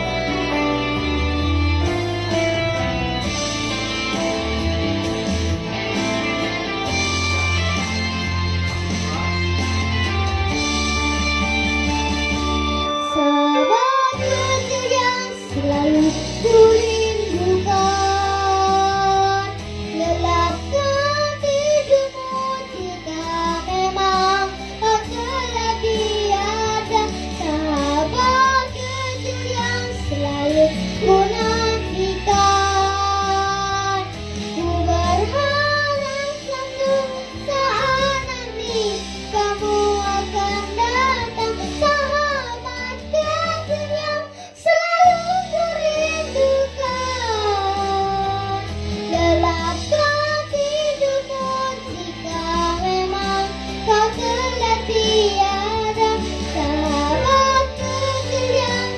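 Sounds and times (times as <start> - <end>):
backing track with guitar and bass: 0.0 - 58.9
person singing pop ballad: 0.0 - 58.9.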